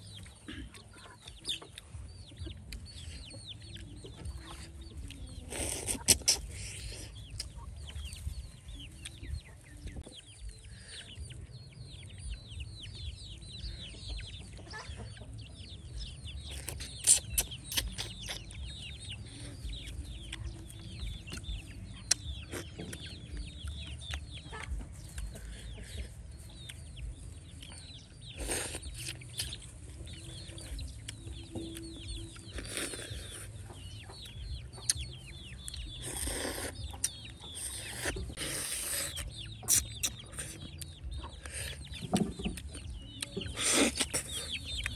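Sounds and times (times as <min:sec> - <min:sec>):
chickens peeping: 0:00.0 - 0:44.9.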